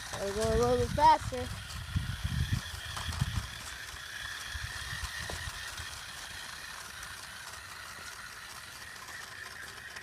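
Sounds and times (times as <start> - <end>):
toy car electric motor whining: 0.0 - 10.0.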